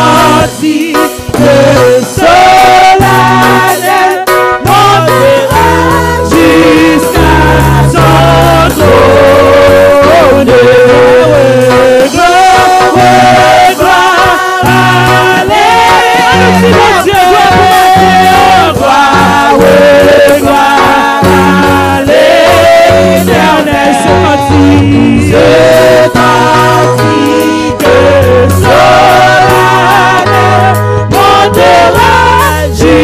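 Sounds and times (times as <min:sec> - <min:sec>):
bass and chord accompaniment: 0:00.0 - 0:33.0
woman singing into a microphone: 0:00.0 - 0:33.0.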